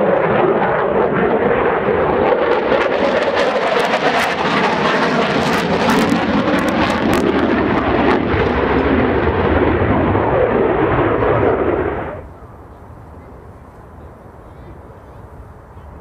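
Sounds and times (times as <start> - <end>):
jet roar: 0.0 - 16.0.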